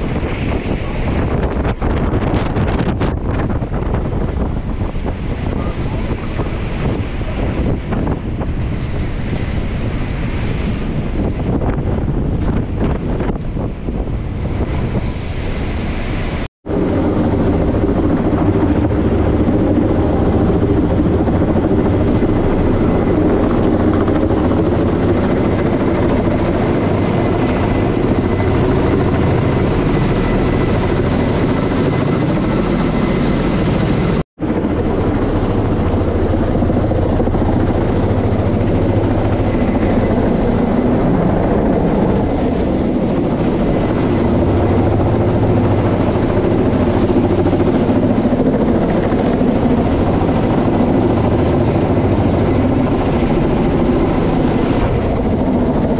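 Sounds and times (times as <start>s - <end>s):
helicopter engines running: 0.0s - 55.9s
helicopter rotor beat: 0.0s - 55.9s.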